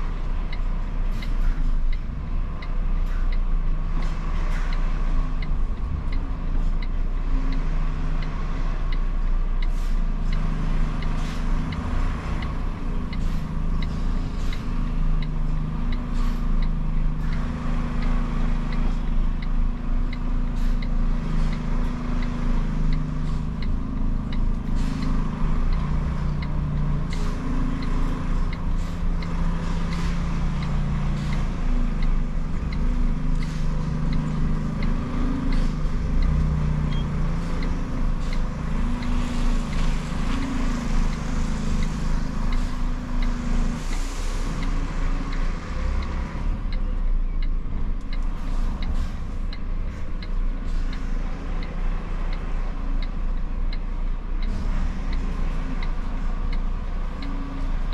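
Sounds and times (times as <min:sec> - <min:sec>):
regular ticking: 0:00.0 - 0:57.9
truck diesel engine running: 0:00.0 - 0:57.9.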